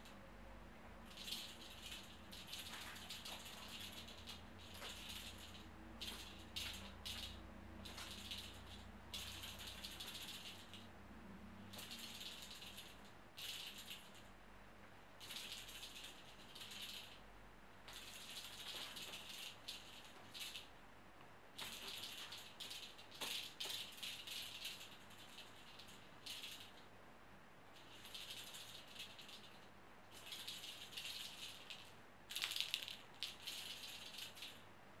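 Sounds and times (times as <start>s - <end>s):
cat wand toy rattling: 1.0s - 10.9s, 11.6s - 14.3s, 15.2s - 17.2s, 17.9s - 20.7s, 21.6s - 26.9s, 27.7s - 34.6s.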